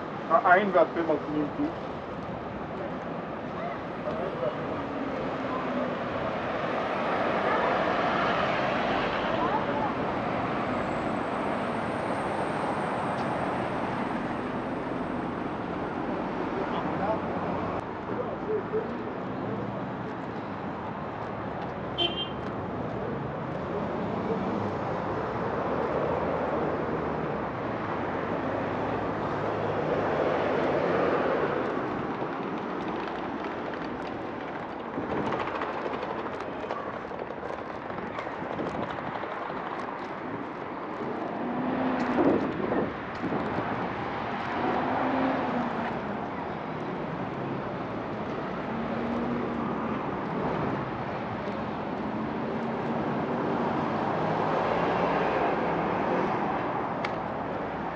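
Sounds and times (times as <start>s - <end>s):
street traffic noise: 0.0s - 57.9s
vehicles passing: 0.0s - 57.9s.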